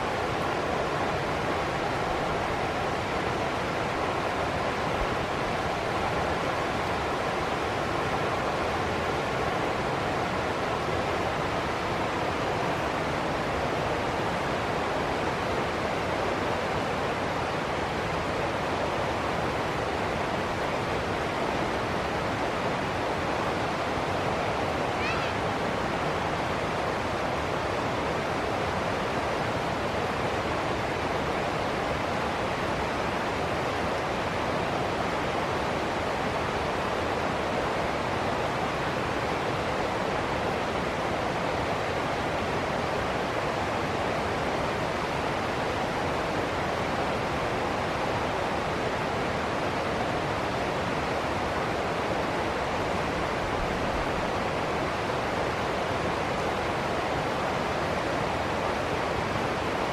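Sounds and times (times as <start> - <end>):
ocean surf rushing: 0.0 - 59.9.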